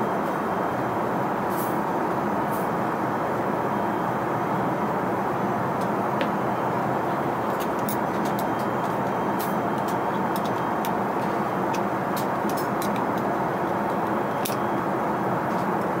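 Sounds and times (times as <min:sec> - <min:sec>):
airliner cabin noise: 0:00.0 - 0:16.0.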